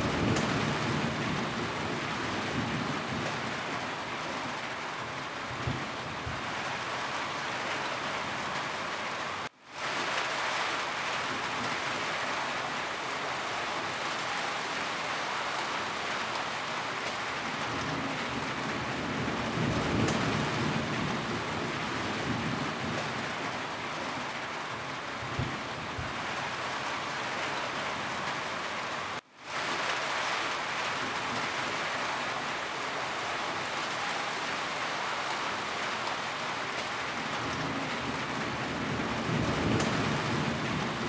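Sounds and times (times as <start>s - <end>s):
heavy rain on a roof: 0.0s - 41.0s.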